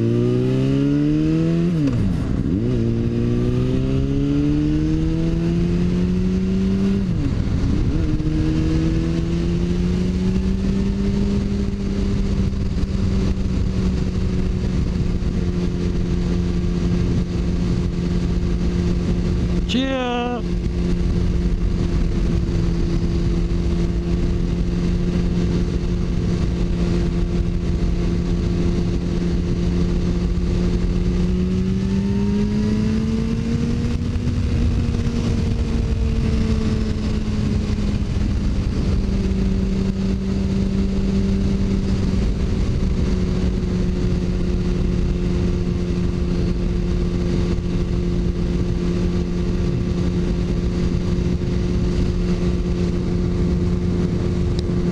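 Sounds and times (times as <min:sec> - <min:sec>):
motorcycle engine cruising: 0:00.0 - 0:54.9
wind rumbling on microphone: 0:00.0 - 0:54.9.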